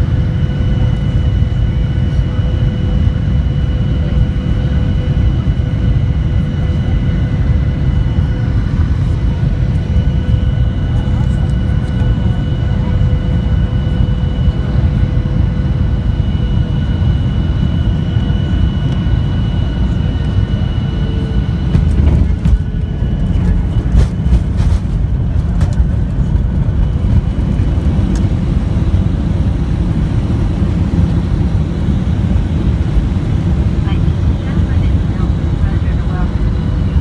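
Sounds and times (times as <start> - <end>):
aircraft cabin rumble: 0.0 - 37.0
jet engine whine: 0.0 - 37.0.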